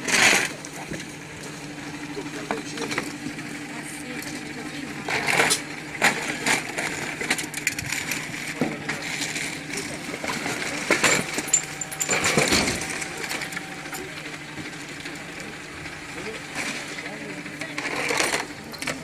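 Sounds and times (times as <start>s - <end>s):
junk clinking and clattering: 0.0s - 19.0s
steady hum: 0.0s - 19.0s.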